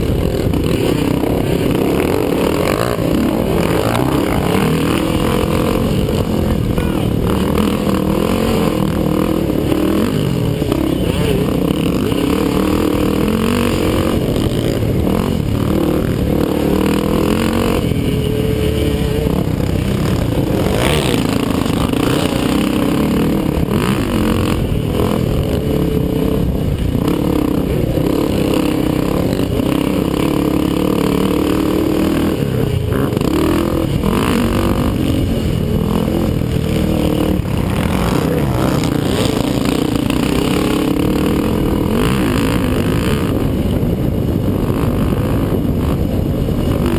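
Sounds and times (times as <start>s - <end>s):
quad engines revving: 0.0s - 46.9s.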